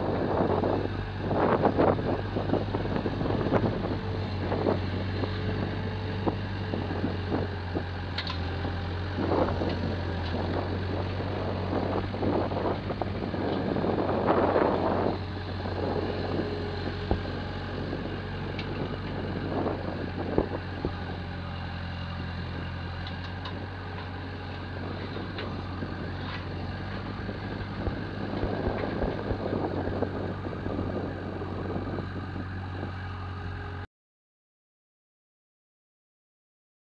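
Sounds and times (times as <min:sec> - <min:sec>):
wind buffeting microphone: 0:00.0 - 0:33.8
skid steer engine running: 0:00.0 - 0:33.9.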